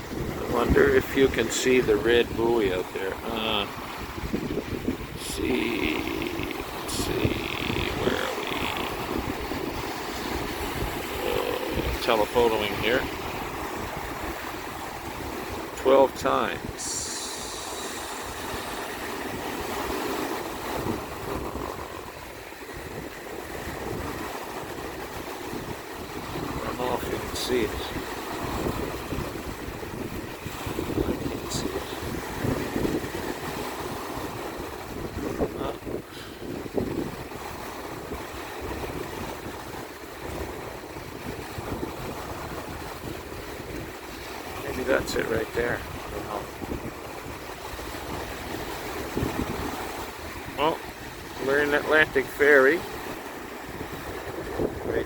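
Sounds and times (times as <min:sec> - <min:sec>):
strong wind buffeting microphone: 0:00.0 - 0:55.0
waves rushing: 0:00.0 - 0:55.0.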